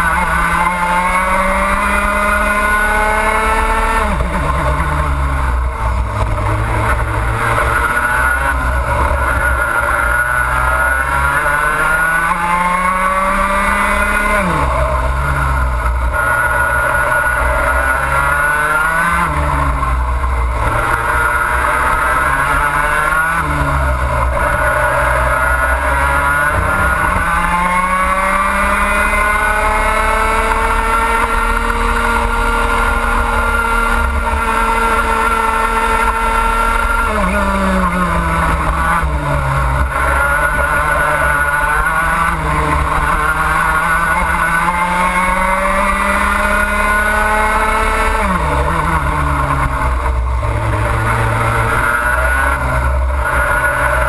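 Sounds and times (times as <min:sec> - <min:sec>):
kart engine at full throttle: 0:00.0 - 0:54.0.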